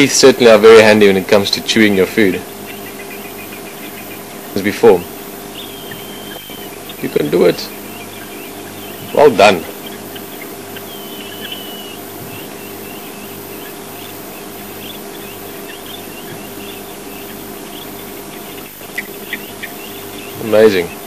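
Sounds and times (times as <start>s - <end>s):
birds chirping and twittering: 0.0s - 21.0s
steady low hum: 0.0s - 21.0s
drawn-out whistled call: 2.3s - 21.0s.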